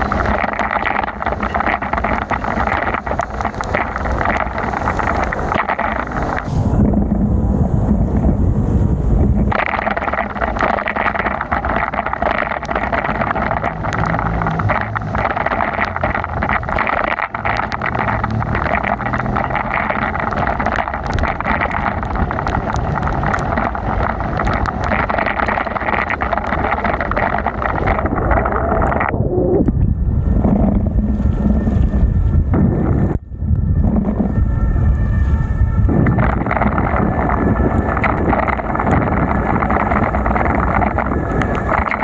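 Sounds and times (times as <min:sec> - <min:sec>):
heavy rain ticking: 0:00.0 - 0:42.0
wind noise on microphone: 0:00.0 - 0:42.0.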